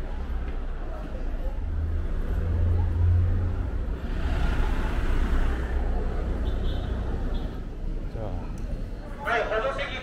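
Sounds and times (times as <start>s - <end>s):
passing traffic rumble: 0.0s - 10.0s.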